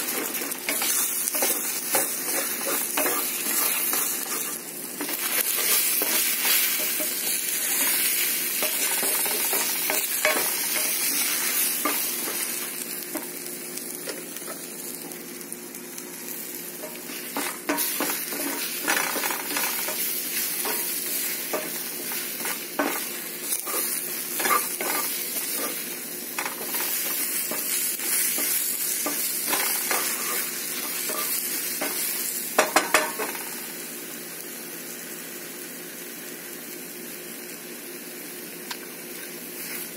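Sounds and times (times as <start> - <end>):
eggs sizzling in a skillet: 0.0 - 39.9.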